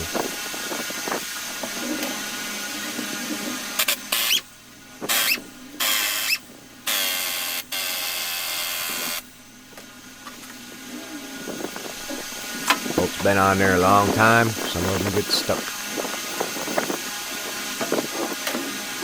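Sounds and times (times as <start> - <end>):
power tool running: 0.0 - 19.0.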